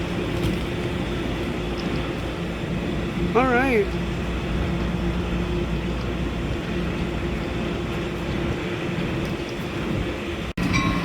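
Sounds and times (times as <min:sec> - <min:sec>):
diesel locomotive running: 0:00.0 - 0:11.0.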